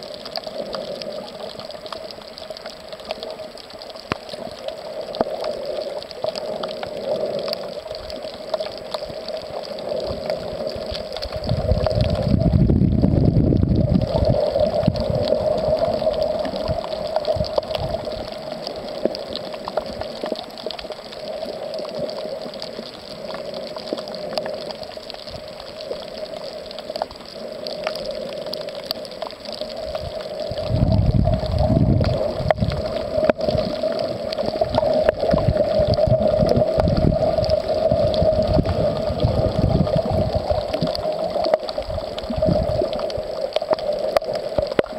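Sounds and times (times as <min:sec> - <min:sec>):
low rushes of water: 0:00.0 - 0:44.9
water sloshing underwater: 0:00.0 - 0:44.9.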